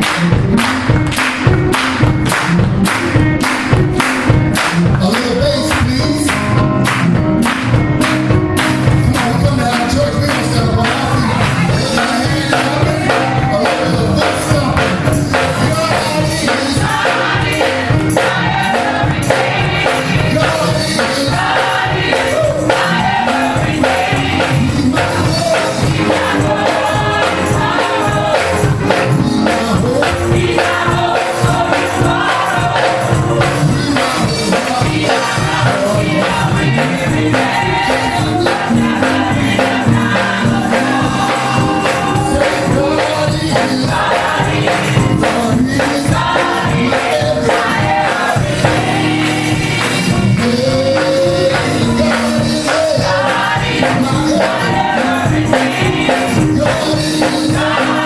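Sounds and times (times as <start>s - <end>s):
band with guitar and bass: 0.0s - 58.0s
gospel choir singing: 0.0s - 58.0s.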